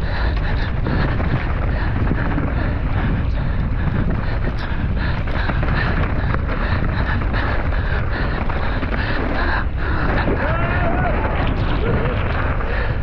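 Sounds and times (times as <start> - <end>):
bike clicks and rattles: 0.0 - 13.0
tyres rumbling on dirt trail: 0.0 - 13.0
wind buffeting microphone: 0.0 - 13.0.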